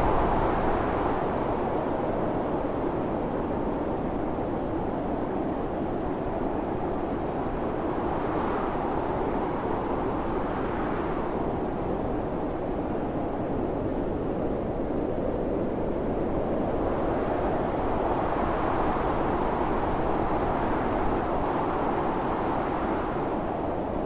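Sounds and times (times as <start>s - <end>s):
blizzard wind rushing: 0.0s - 24.0s.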